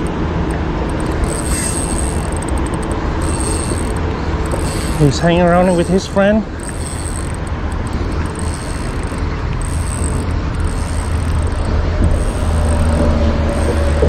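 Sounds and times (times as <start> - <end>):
passing vehicle hum: 0.0 - 14.0
road traffic noise: 0.0 - 14.0.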